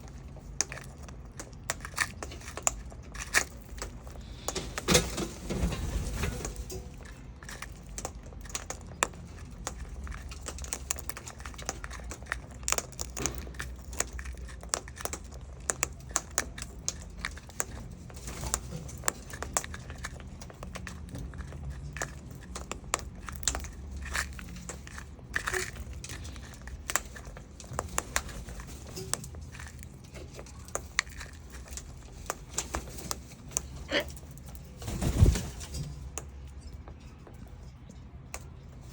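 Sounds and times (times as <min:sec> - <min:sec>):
cockatoo beak crunching food: 0:00.0 - 0:38.9.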